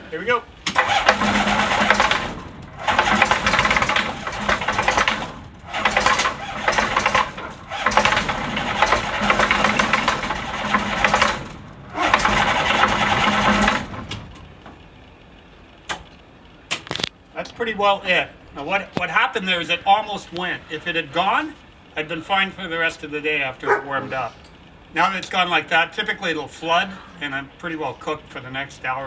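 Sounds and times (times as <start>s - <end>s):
aircraft engine cranking: 0.0s - 29.0s.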